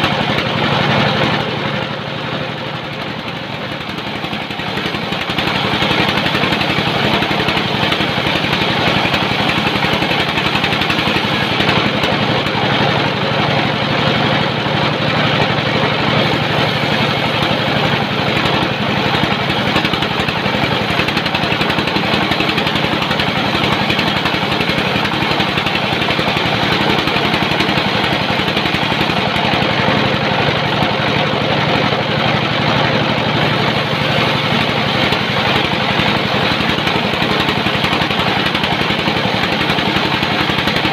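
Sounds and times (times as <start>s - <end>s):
engine-driven saw humming: 0.0s - 40.9s.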